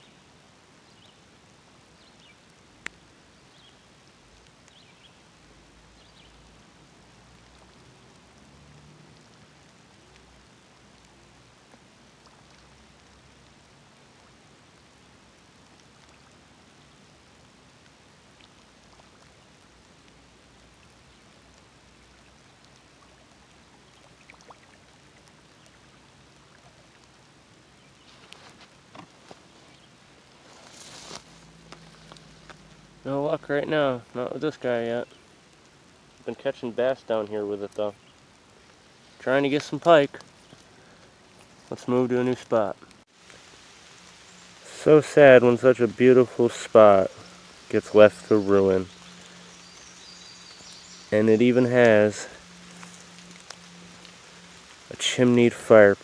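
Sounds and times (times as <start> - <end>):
faint hiss of water: 0.0 - 56.0
small ticks: 2.0 - 29.9, 30.5 - 33.0, 34.6 - 41.7, 46.6 - 55.4.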